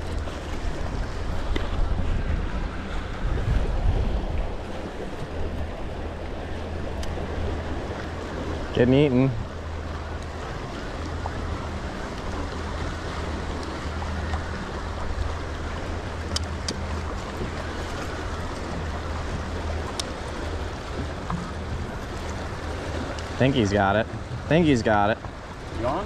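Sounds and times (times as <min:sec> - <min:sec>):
water noise: 0:00.0 - 0:26.0
wind: 0:00.0 - 0:26.0
boat engine idling: 0:04.2 - 0:26.0.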